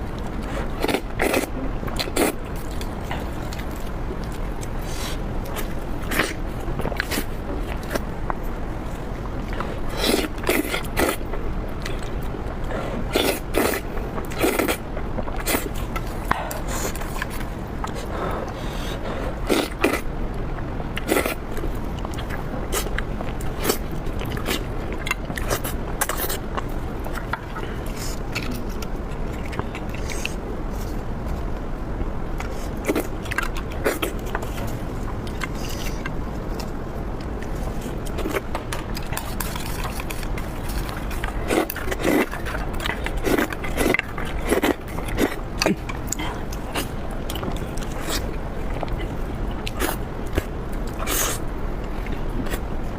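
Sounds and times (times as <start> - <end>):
person chewing food: 0.0 - 31.7, 32.3 - 52.9.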